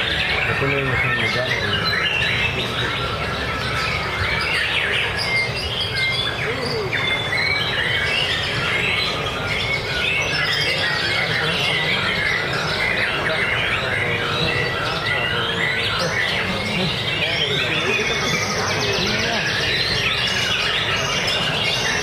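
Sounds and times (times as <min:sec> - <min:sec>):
other songbirds singing: 0:00.0 - 0:22.0.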